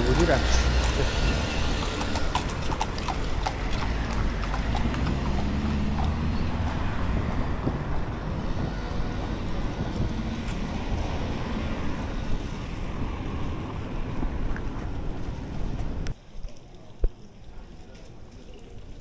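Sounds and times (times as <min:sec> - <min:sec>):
wind rumble on microphone: 0:00.0 - 0:16.2
horse hooves clip-clopping: 0:00.0 - 0:19.0.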